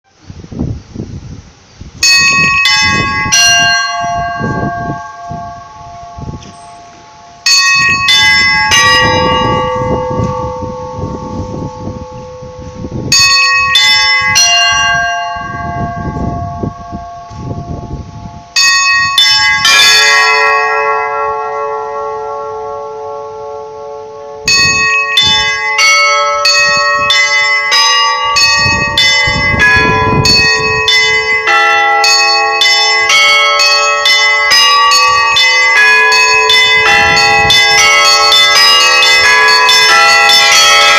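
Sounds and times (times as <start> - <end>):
church bells ringing: 2.0 - 40.9
deep bell: 2.0 - 40.9.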